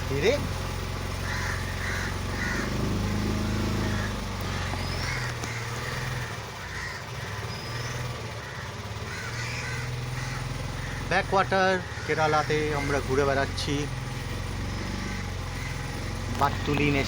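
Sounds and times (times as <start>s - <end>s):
motorboat engine running: 0.0s - 17.0s
crows cawing: 0.3s - 17.0s.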